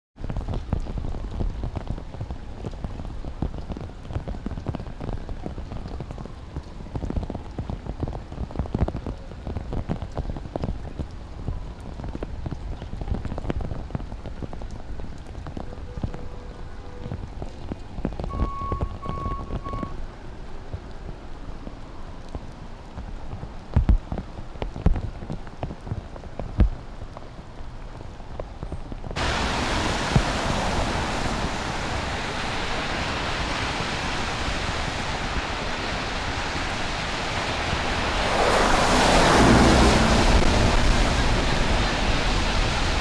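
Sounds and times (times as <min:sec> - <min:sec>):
heavy downpour: 0:00.2 - 0:43.0
raindrops tapping: 0:00.2 - 0:43.0.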